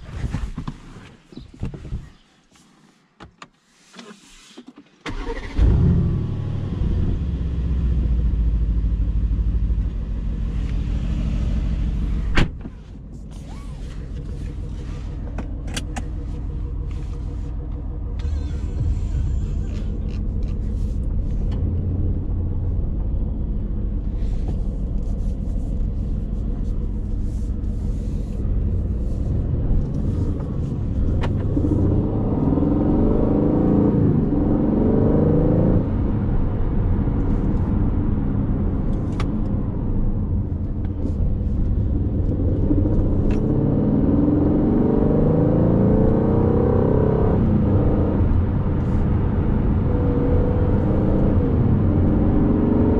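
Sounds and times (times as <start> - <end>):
car engine rumbling and accelerating: 0.0 - 3.4, 4.0 - 52.9.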